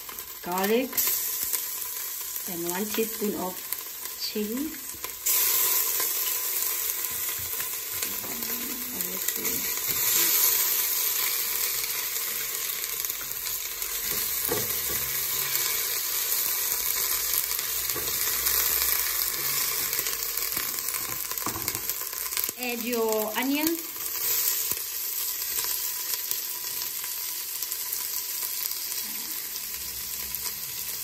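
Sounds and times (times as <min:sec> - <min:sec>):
paste sizzling in hot oil: 0:00.0 - 0:31.0.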